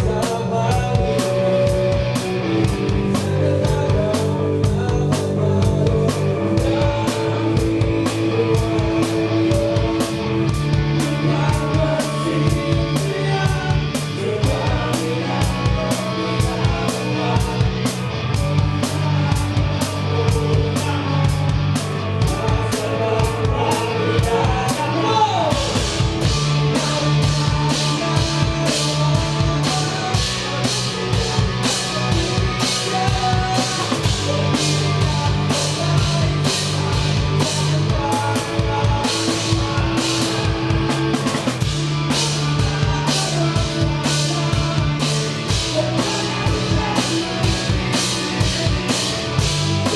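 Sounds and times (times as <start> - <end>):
bass guitar: 0.0 - 49.9
drum kit beating: 0.0 - 49.9
electric guitar: 0.0 - 49.9
live rock band playing: 0.0 - 49.9
person singing: 0.0 - 49.9.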